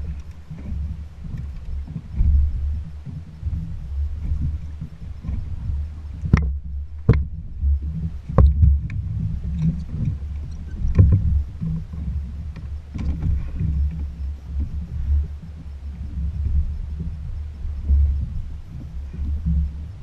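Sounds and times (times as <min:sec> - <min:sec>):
jet ski engine rumbling: 0:00.0 - 0:20.0.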